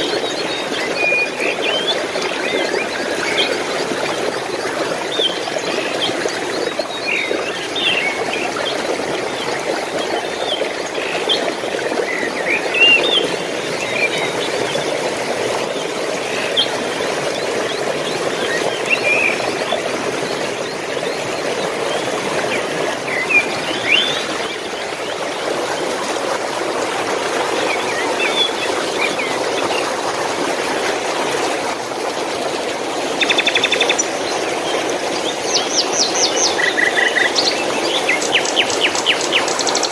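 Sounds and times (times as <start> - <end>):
water rushing over stones: 0.0 - 39.9.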